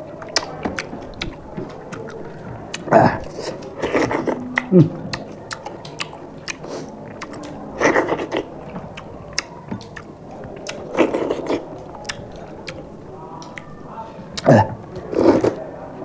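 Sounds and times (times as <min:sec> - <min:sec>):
wet chewing and mouth clicks: 0:00.0 - 0:15.6.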